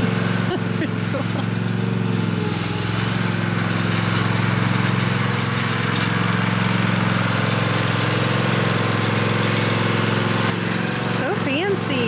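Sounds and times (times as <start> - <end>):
lawnmower engine droning: 0.0 - 12.0.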